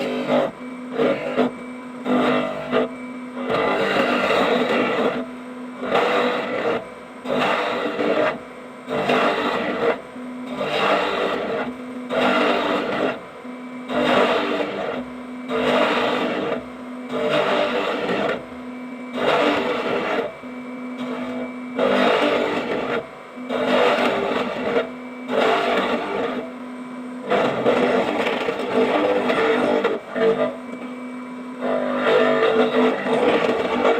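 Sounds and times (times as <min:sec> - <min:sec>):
power tool motor humming: 0:00.0 - 0:33.9.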